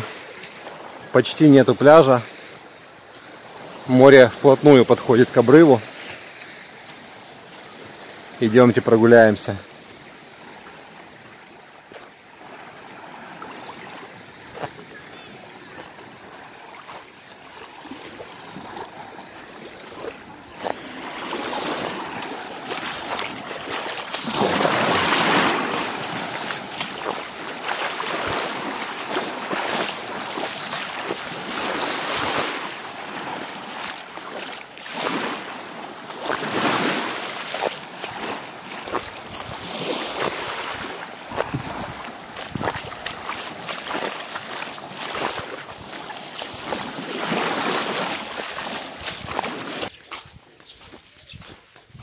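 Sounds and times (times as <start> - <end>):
small waves washing onto sand: 0.0 - 51.6.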